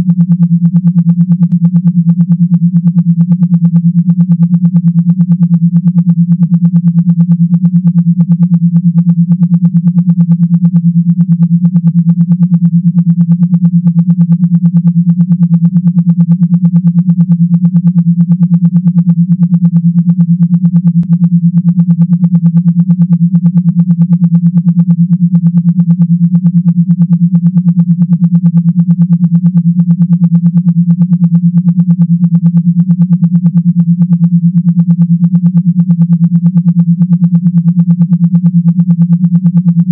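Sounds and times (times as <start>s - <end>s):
low synthesized vibration buzz: 0.0s - 39.9s.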